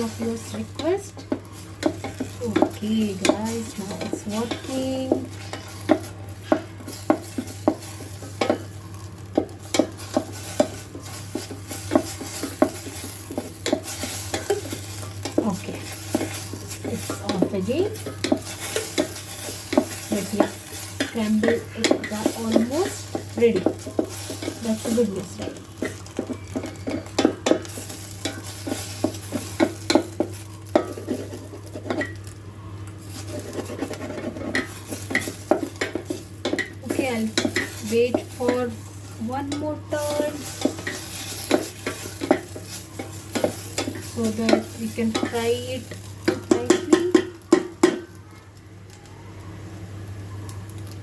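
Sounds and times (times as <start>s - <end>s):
utensil scraping metal pot: 0.0s - 32.3s, 33.0s - 47.9s
egg sizzling in oil: 0.0s - 51.0s.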